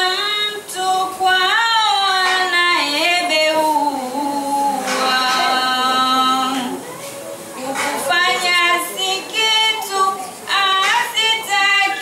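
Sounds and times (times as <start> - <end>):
woman chanting: 0.0 - 6.8, 7.6 - 12.0.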